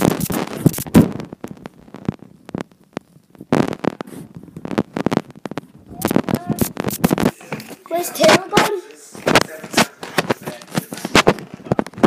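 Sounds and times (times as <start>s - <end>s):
phone microphone handling noise: 0.0s - 12.0s.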